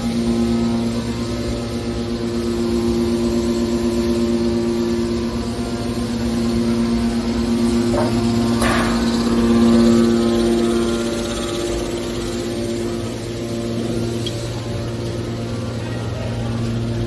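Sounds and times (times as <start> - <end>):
hydraulic baler humming: 0.0 - 17.0.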